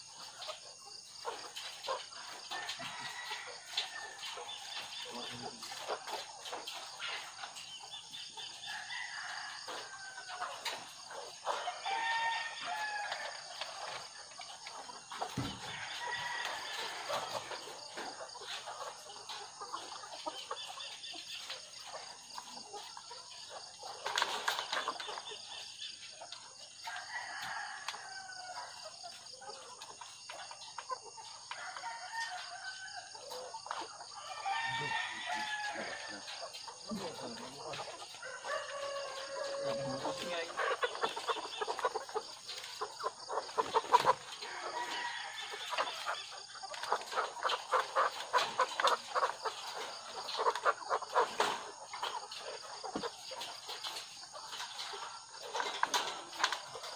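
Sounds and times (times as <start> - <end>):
hens clucking and calling: 0.0 - 56.9.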